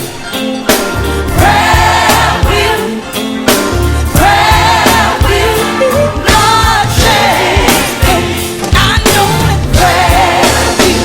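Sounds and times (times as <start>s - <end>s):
band with bass and drums: 0.0s - 11.0s
group singing gospel: 1.2s - 11.0s.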